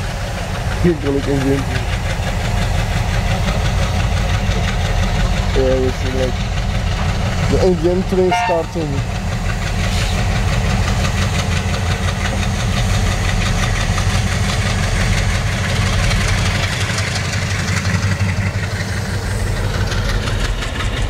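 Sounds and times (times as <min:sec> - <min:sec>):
large engine idling with knocking: 0:00.0 - 0:21.0.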